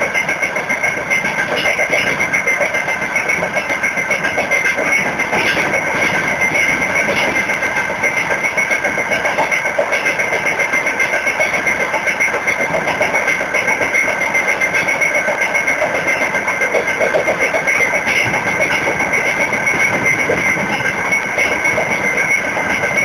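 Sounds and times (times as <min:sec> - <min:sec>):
constant high tone: 0:00.0 - 0:23.0
train wheels rumbling and rattling: 0:00.0 - 0:23.0.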